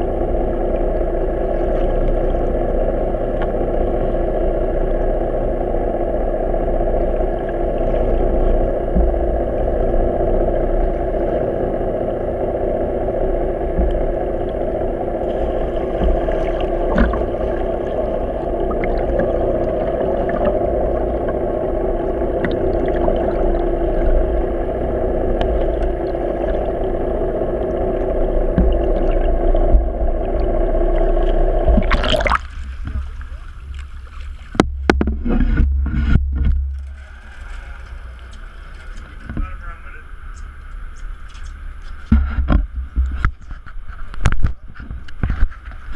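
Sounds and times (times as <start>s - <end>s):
boat engine humming underwater: 0.0s - 45.9s.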